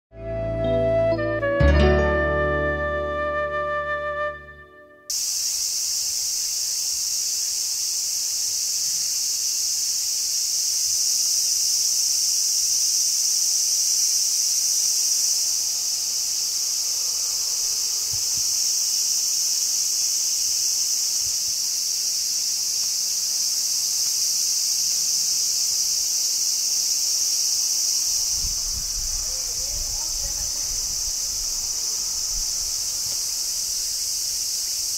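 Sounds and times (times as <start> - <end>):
cicada chorus buzzing: 5.1 - 34.9.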